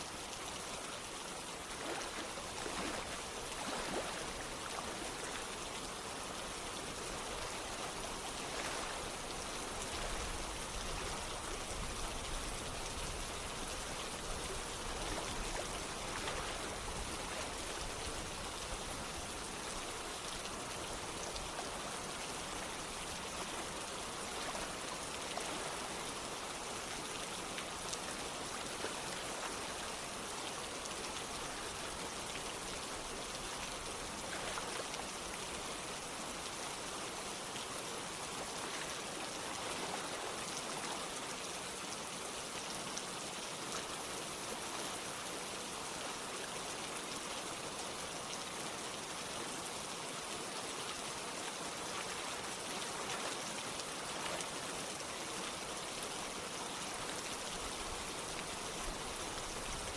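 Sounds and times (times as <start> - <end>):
running water: 0.0 - 59.9
steady rain falling: 0.0 - 59.9.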